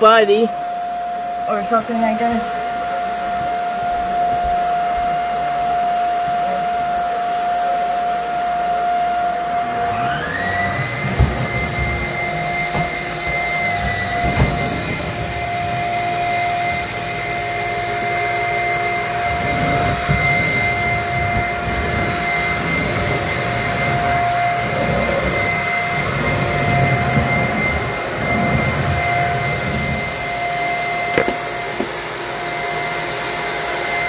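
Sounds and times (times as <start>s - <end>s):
vacuum cleaner motor whine: 0.0s - 34.0s
higher whine: 0.6s - 33.2s.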